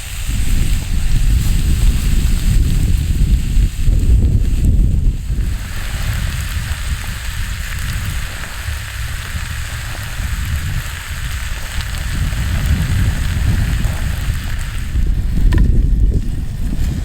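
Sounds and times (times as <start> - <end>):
campfire crackling and hissing: 0.0 - 17.0
wind rumble on microphone: 0.0 - 17.0.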